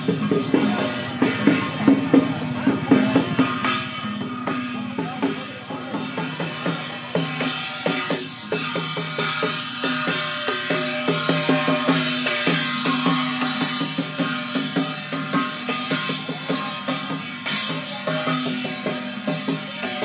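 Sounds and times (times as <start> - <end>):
drums and cymbals in fast rhythm: 0.0 - 20.0
gongs ringing: 0.0 - 20.0.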